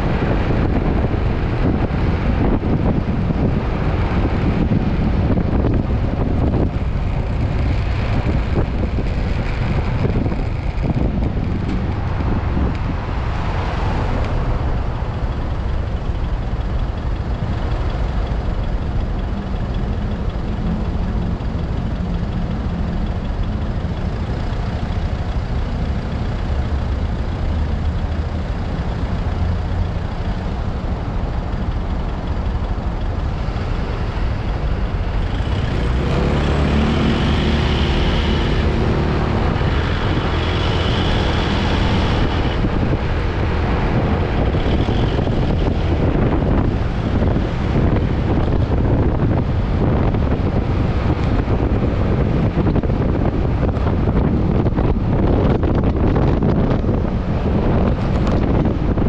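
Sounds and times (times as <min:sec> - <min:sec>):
scooter engine running: 0:00.0 - 0:13.5, 0:14.1 - 0:59.0
wind rush on microphone: 0:00.0 - 0:59.0.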